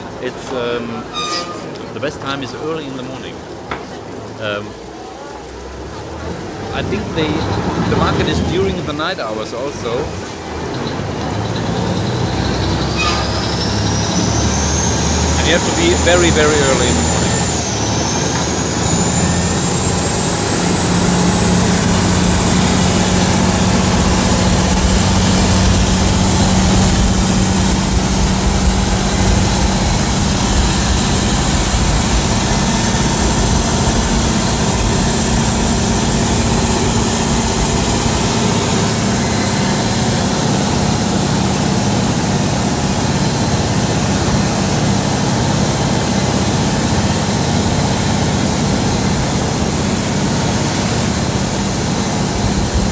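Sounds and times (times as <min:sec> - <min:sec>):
thin high whine: 0:00.0 - 0:03.3, 0:11.4 - 0:52.9
boat diesel engine running: 0:00.0 - 0:52.9.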